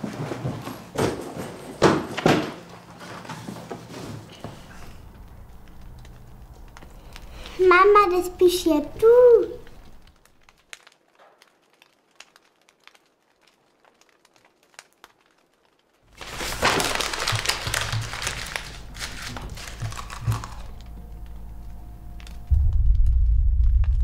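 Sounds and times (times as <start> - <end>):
wrapper crinkling and rustling: 0.0 - 22.5.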